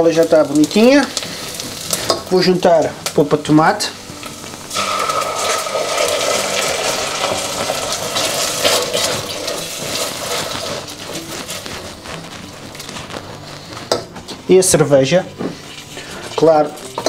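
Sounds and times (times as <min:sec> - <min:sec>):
spatula stirring: 0:00.0 - 0:03.2, 0:04.1 - 0:17.0
watery sizzle in a pot: 0:00.0 - 0:17.0.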